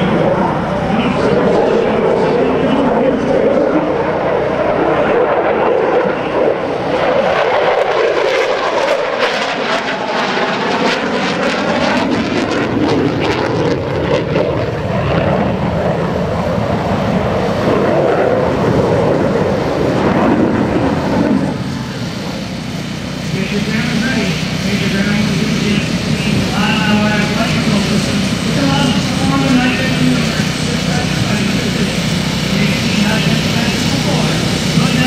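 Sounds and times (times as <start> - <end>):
jet engine roar: 0.0 - 35.0.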